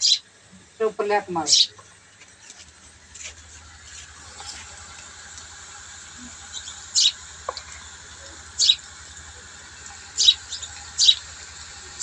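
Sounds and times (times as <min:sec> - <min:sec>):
frying sizzle: 0:01.9 - 0:12.0.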